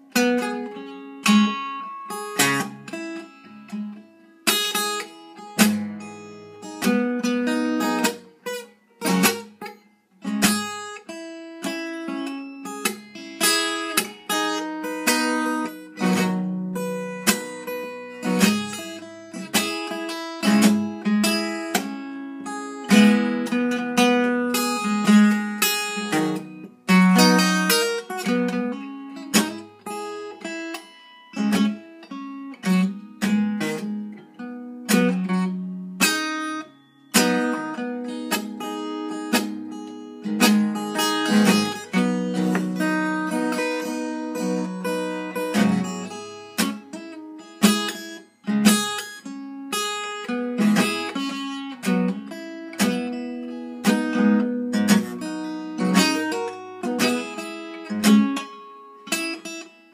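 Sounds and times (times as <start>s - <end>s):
acoustic guitar strummed chords: 0.0s - 59.9s.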